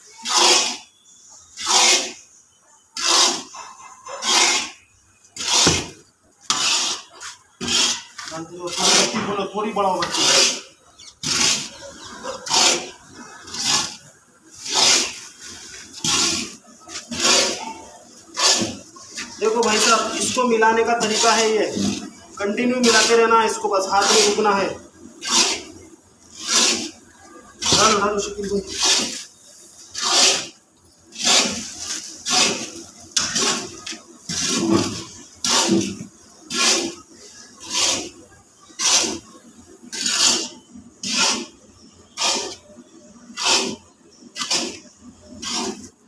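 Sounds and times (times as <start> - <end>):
metal spatula scraping grit in wok: 0.1 - 2.2, 3.0 - 9.4, 10.0 - 27.0, 27.6 - 39.2, 39.9 - 42.6, 43.2 - 46.0.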